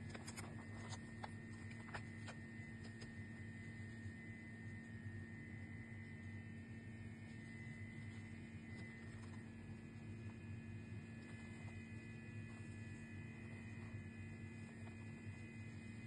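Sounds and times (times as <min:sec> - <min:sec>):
electrical hum with high tone: 0:00.0 - 0:16.0.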